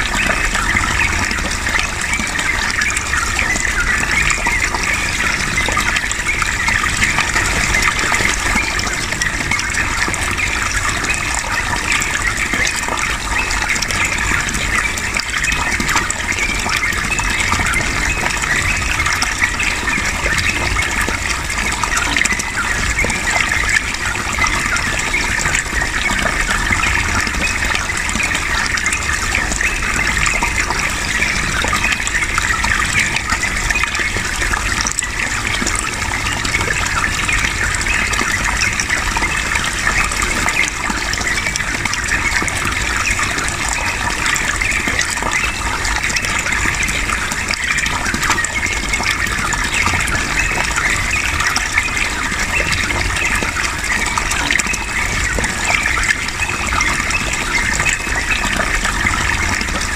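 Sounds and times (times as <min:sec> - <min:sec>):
running water gushing: 0:00.0 - 0:59.9.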